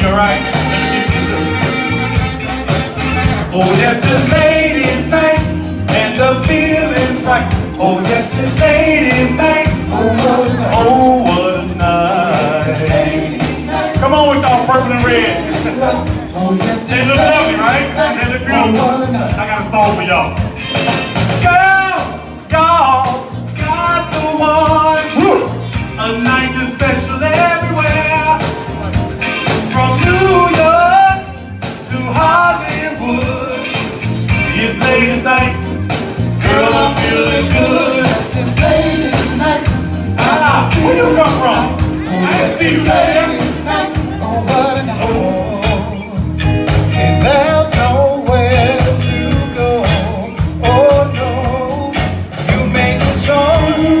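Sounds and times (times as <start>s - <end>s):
band drums and bass: 0.0s - 54.0s
singer's voice: 0.0s - 54.0s.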